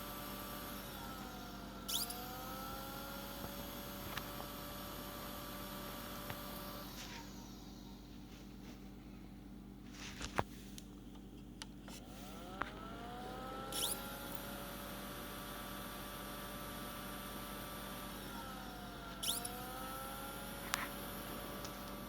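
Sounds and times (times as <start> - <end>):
low mains hum: 0.0 - 22.0
projector cooling fans whirring: 0.0 - 22.0.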